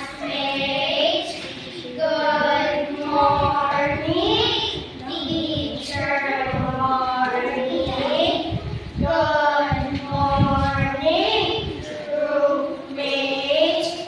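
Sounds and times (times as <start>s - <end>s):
high voice singing wordless phrases: 0.0s - 14.0s.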